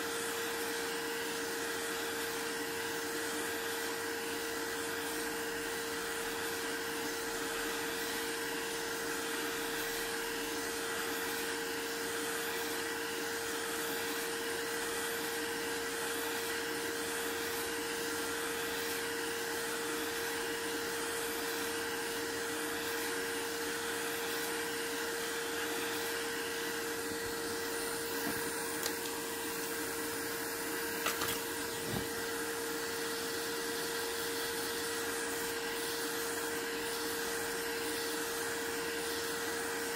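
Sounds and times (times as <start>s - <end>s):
electric blower motor whirring: 0.0s - 39.9s.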